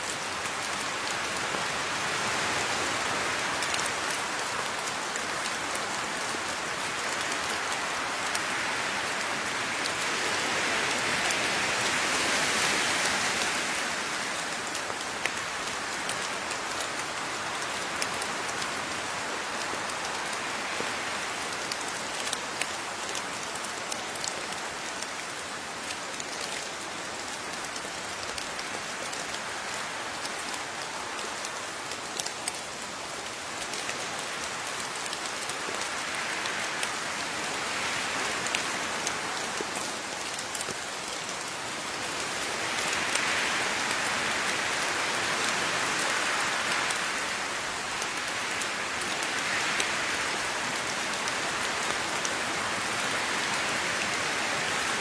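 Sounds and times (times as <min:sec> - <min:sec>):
raindrops ticking on a surface: 0:00.0 - 0:55.0
steady rain: 0:00.0 - 0:55.0.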